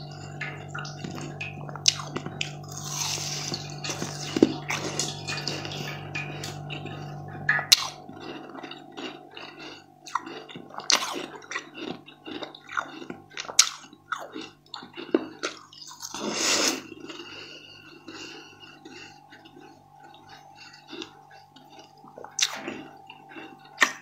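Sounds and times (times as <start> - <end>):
crisp crackles of eating: 0.0 - 24.0
low steady hum: 0.0 - 24.0.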